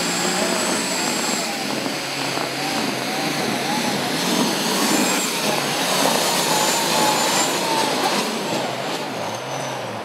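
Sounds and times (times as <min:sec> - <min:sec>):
tractor engine running hard: 0:00.0 - 0:10.0.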